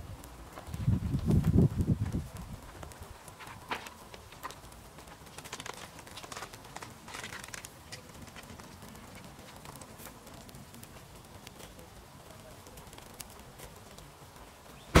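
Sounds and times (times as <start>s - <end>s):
crackles and pops of grilling: 0.0s - 15.0s.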